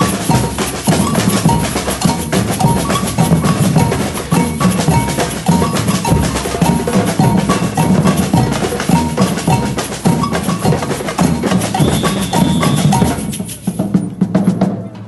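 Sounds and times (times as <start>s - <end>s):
drum ensemble playing: 0.0s - 15.0s.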